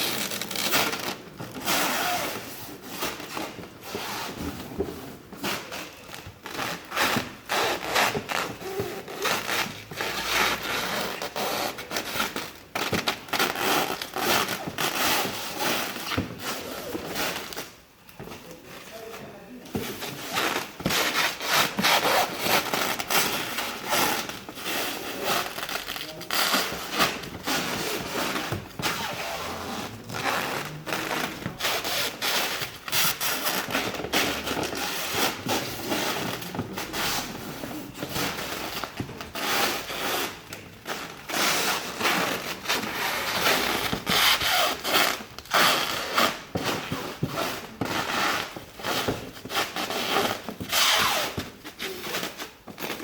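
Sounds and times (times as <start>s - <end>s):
rubbing and scraping handling noises: 0.0s - 53.0s.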